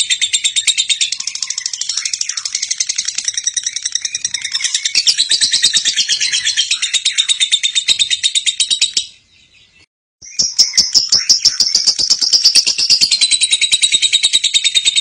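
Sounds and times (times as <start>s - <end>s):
lovebird chattering trill: 0.0s - 9.2s, 10.2s - 15.0s.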